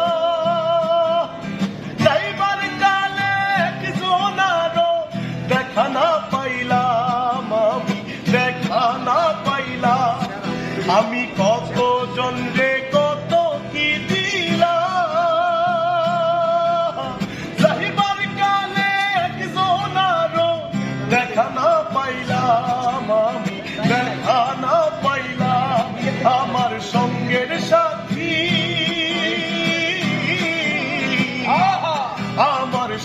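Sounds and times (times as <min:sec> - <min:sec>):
person singing: 0:00.0 - 0:33.0.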